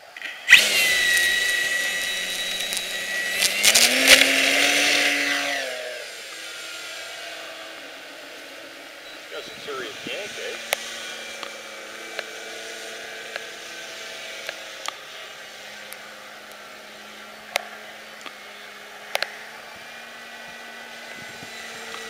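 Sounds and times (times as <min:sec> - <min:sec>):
model plane motor humming: 0:00.4 - 0:09.0, 0:09.6 - 0:22.0.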